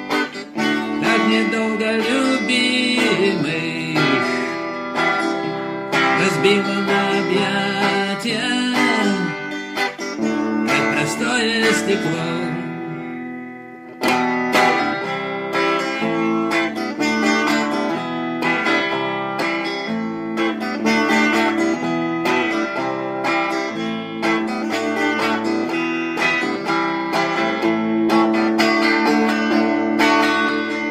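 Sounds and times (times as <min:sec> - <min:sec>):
instrumental guitar music: 0:00.0 - 0:30.9.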